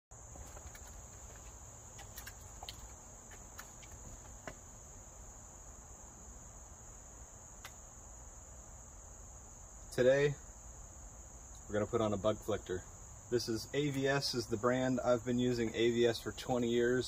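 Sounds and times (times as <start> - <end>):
crickets chirping: 0.1 - 17.0.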